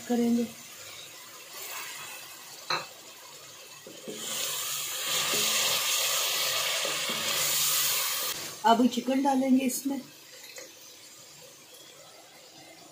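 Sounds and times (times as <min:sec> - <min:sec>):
water sizzling in hot fat: 0:00.0 - 0:12.9.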